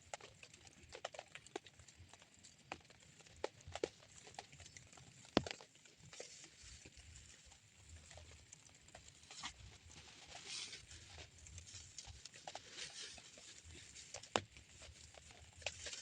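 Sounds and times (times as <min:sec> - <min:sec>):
drizzle pattering: 0:00.2 - 0:16.0.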